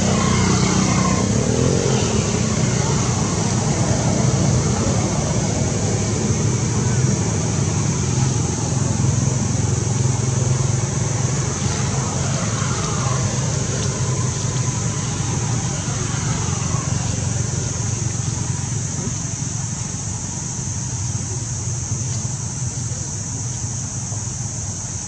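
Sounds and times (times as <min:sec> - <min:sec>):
constant high hiss: 0:00.0 - 0:25.0
distant traffic rumble: 0:00.0 - 0:25.0.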